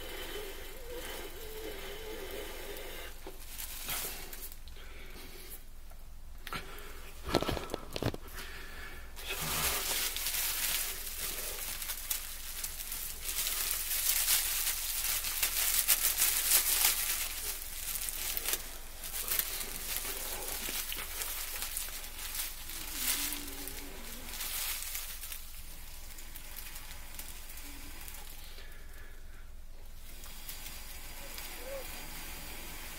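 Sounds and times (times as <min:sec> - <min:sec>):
dry grass rustling and crinkling: 0:00.1 - 0:05.7, 0:06.6 - 0:08.6, 0:09.2 - 0:32.9.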